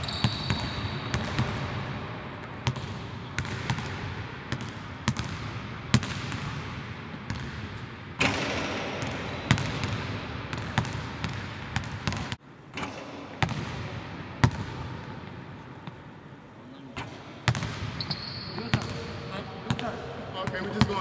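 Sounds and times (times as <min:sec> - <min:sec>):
basketball bouncing on hardwood court: 0:00.0 - 0:14.9, 0:17.0 - 0:19.0.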